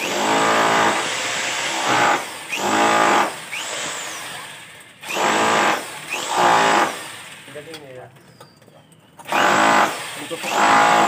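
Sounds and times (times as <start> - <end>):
rotary hammer boring through wall: 0.0 - 7.7, 9.2 - 11.0.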